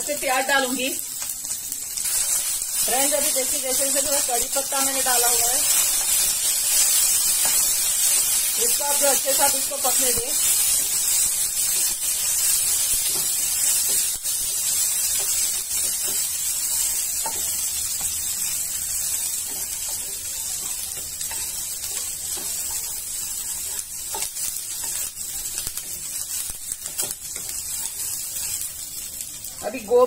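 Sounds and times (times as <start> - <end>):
food sizzling in hot oil: 0.0 - 30.0
spatula tapping and scraping: 2.0 - 18.3, 19.4 - 28.8.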